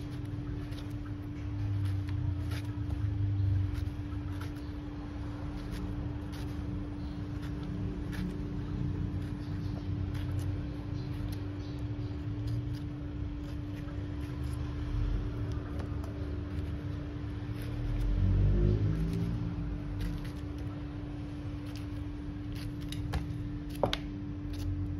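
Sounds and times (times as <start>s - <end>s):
knife paring fruit skin: 0.0s - 24.9s
mechanical hum: 0.0s - 24.9s.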